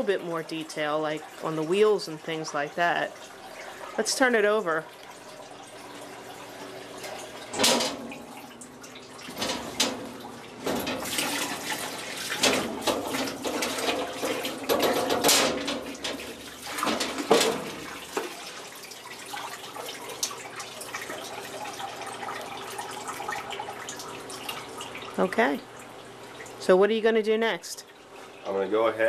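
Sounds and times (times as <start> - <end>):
water splashing and dripping: 0.0 - 26.6.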